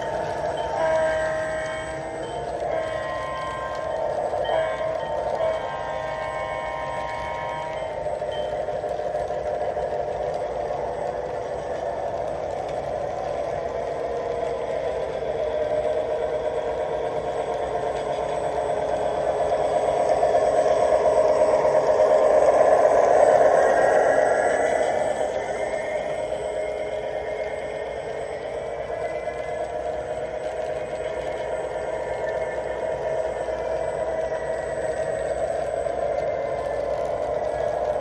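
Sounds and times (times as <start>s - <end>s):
model train motor rattling: 0.0s - 38.0s.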